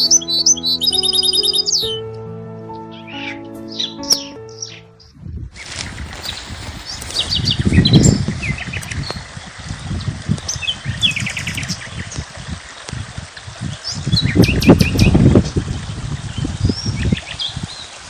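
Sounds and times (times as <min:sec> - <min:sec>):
small birds chirping: 0:00.0 - 0:02.1, 0:02.8 - 0:13.0, 0:13.6 - 0:18.0.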